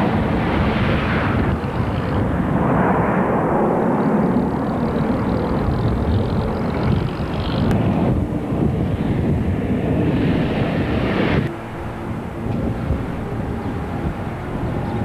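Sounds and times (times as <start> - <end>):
faint steady whine: 0.0 - 15.0
jet engines roaring: 0.0 - 15.0.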